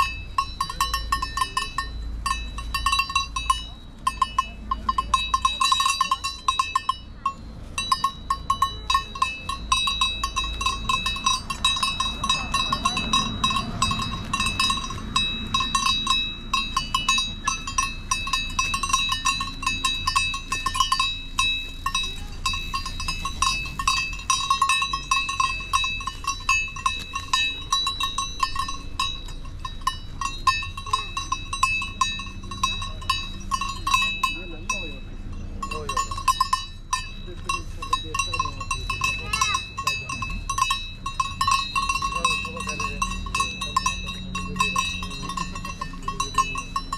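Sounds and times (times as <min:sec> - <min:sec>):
goat bells ringing: 0:00.0 - 0:46.9.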